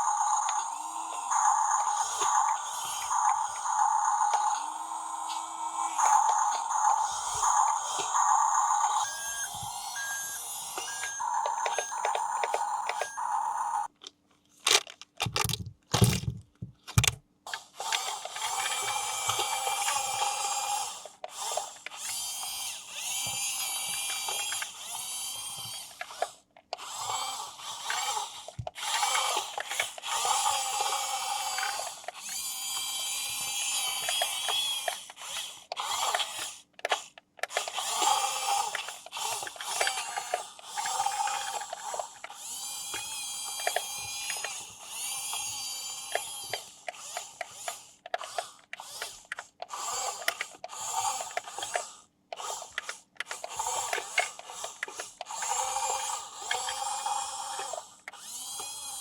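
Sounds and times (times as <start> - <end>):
toy electric motor whirring: 0.0 - 14.0, 17.0 - 59.0.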